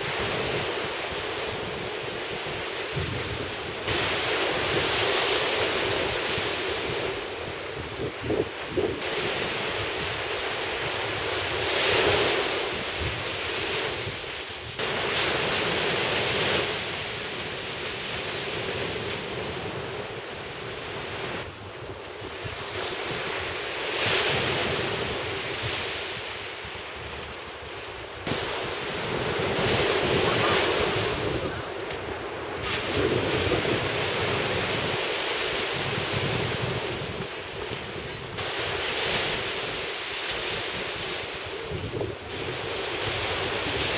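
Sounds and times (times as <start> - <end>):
surf crashing on beach: 0.0 - 43.9
wind rumbling on microphone: 0.0 - 43.9.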